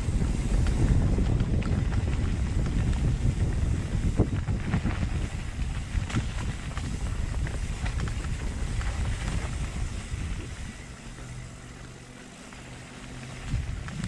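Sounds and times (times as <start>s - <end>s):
bike rattling over rough ground: 0.0s - 14.0s
low buzz: 0.0s - 14.0s
wind on microphone: 0.0s - 14.0s.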